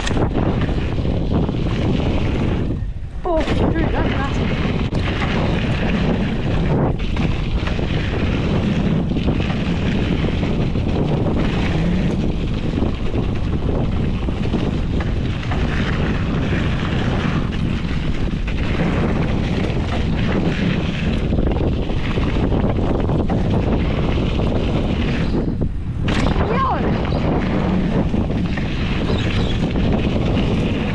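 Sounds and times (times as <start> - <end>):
tyres rolling over dirt: 0.0 - 30.9
wind buffeting microphone: 0.0 - 30.9.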